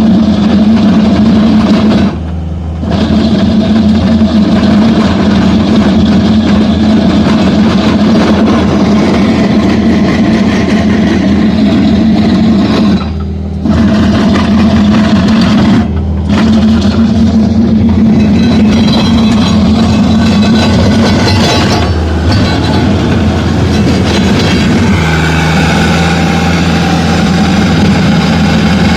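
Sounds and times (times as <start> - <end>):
loud engine hum: 0.0 - 28.9
grinding into concrete: 2.8 - 28.9.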